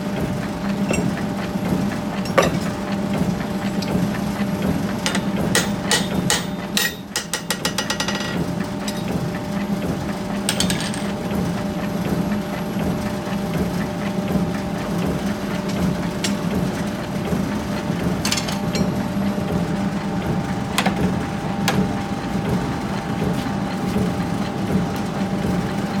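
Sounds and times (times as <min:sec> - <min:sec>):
machinery humming: 0:00.0 - 0:07.4, 0:08.1 - 0:26.0.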